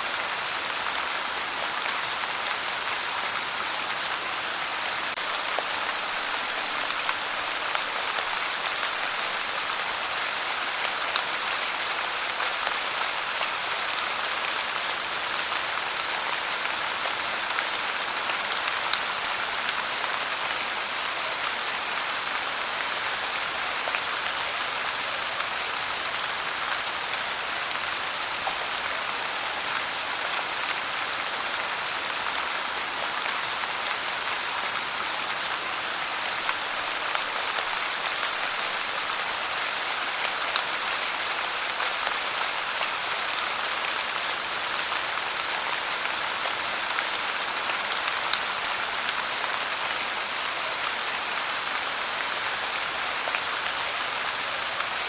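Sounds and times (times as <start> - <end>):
pouring rain: 0.0 - 55.0.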